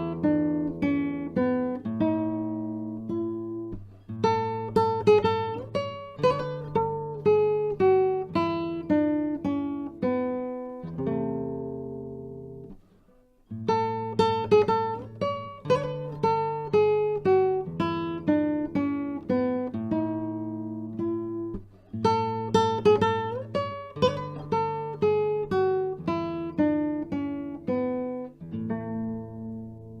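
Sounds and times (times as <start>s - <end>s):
plucked guitar dance piece: 0.0s - 30.0s.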